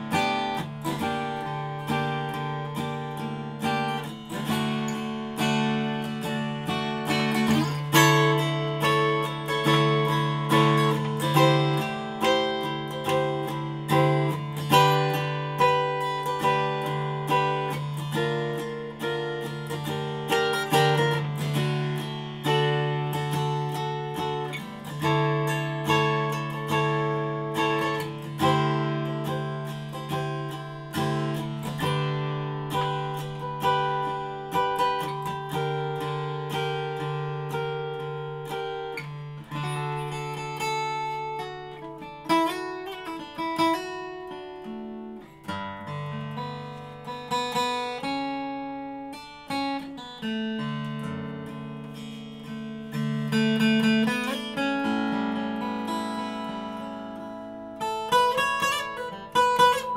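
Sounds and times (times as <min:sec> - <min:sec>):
acoustic guitar playing: 0:00.0 - 0:59.9.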